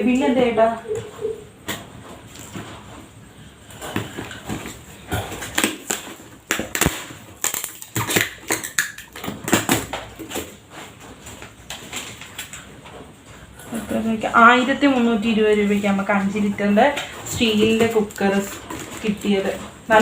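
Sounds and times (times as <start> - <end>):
packaging rustling: 1.7 - 13.6, 15.2 - 20.0.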